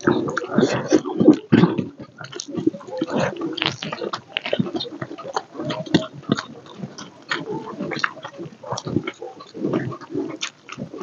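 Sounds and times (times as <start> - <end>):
chewing and wet mouth sounds: 0.0 - 11.0
mouth clicks and smacks: 0.0 - 11.0.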